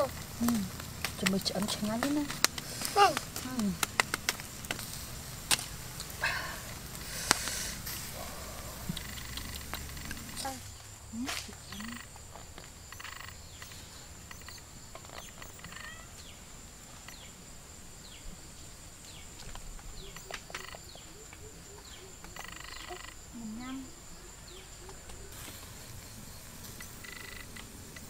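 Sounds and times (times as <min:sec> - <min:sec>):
low calls: 0:00.0 - 0:28.0
steady high-pitched whine: 0:00.0 - 0:28.0.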